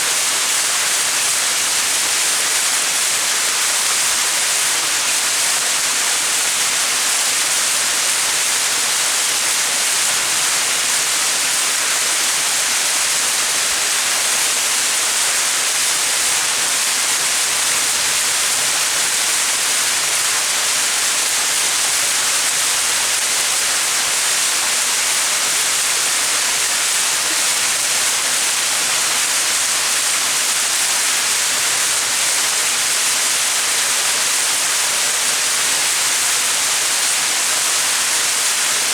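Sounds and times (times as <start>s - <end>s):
small waterfall splashing: 0.0s - 38.9s.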